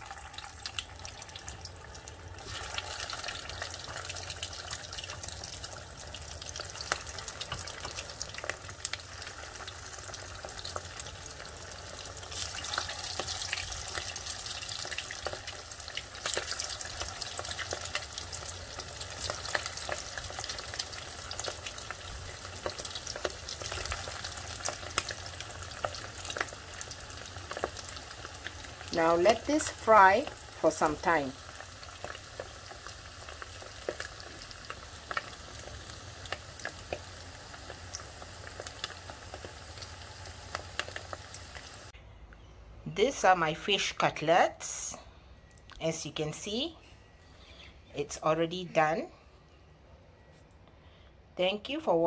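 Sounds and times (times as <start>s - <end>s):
deep-frying sizzle with pops: 0.0s - 42.0s.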